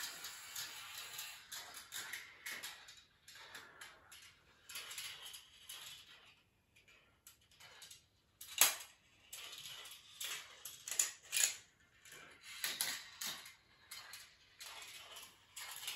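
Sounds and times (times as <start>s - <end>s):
marbles rolling on track: 0.0s - 15.9s.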